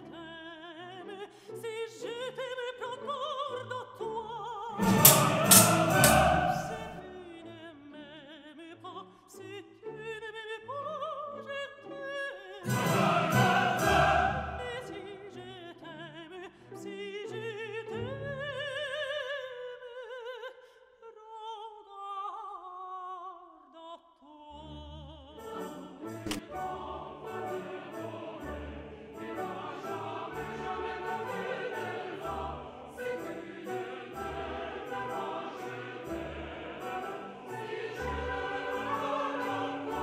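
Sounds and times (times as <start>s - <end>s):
orchestra: 0.0s - 19.5s, 24.6s - 40.0s
opera singing with vibrato: 0.0s - 40.0s.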